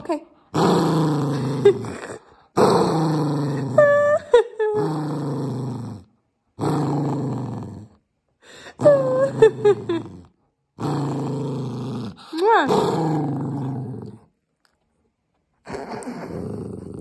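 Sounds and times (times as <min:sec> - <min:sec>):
puppy growling: 0:00.5 - 0:08.1, 0:08.8 - 0:14.4, 0:15.6 - 0:17.0.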